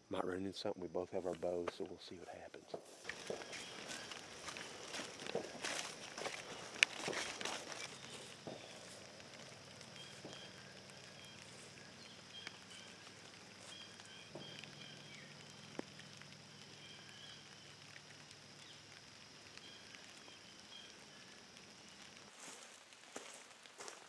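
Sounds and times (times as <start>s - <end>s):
faint rain pattering: 0.0s - 24.0s
steady faint hiss: 0.0s - 24.0s.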